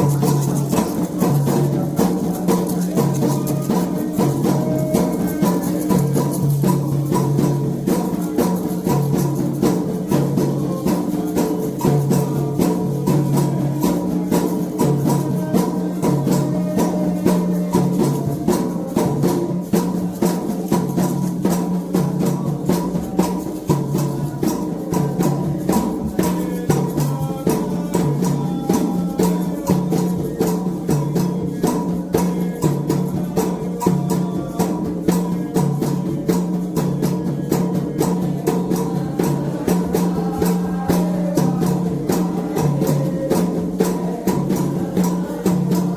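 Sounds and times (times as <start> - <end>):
hand drums: 0.0 - 45.9.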